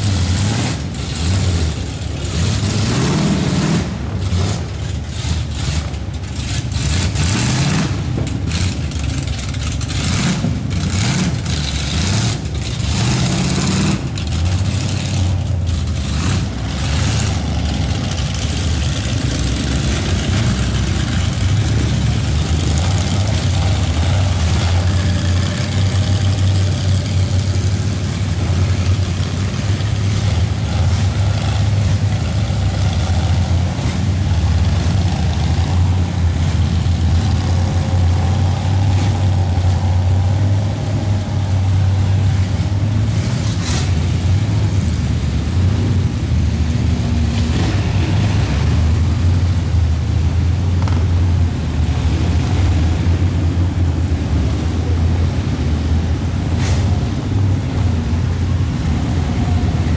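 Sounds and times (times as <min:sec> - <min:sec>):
truck engines rumbling: 0:00.0 - 0:59.9
trucks wading through muddy water: 0:00.0 - 0:59.9.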